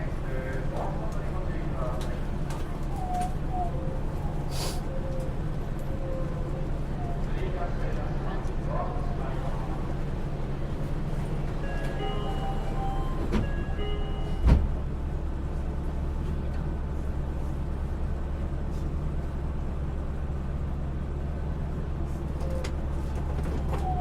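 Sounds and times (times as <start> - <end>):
monorail car low hum: 0.0 - 24.0.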